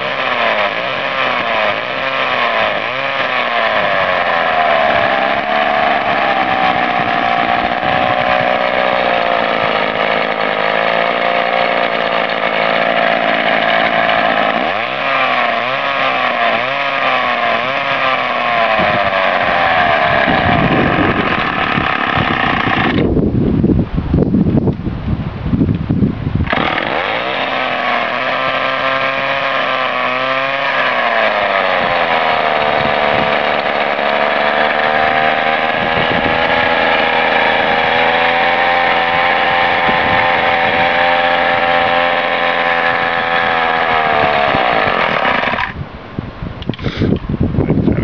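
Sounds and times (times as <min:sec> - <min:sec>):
chainsaw engine running: 0:00.0 - 0:23.2, 0:26.4 - 0:45.9, 0:46.7 - 0:47.2.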